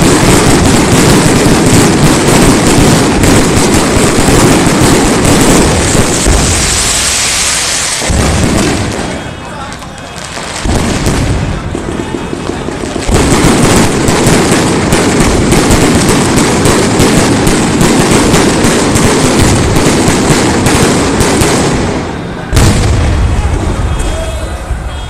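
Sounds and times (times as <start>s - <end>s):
fireworks crackling bangs: 0.0s - 25.0s.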